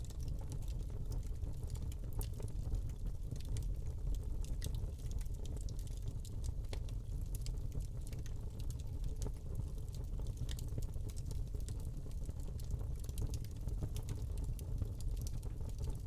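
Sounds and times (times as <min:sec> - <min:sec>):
burning log crackles and pops: 0:00.0 - 0:16.0
low rumble of flames: 0:00.0 - 0:16.0.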